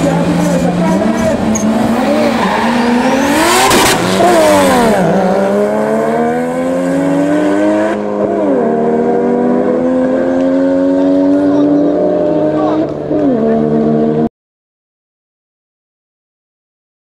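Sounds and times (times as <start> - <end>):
drag car engines revving: 0.0 - 14.3.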